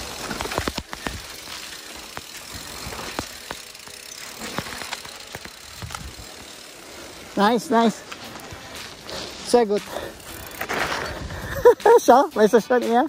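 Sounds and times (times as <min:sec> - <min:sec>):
bike rattling over bumps: 0:00.0 - 0:12.2
bike tyres on gravel: 0:00.0 - 0:13.0.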